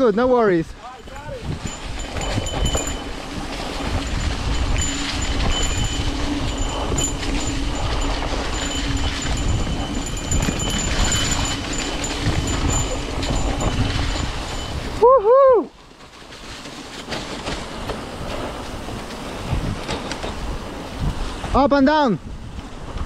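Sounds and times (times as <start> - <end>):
bike tyres rumbling over leaves: 0.0 - 23.0
low hum: 1.5 - 21.3.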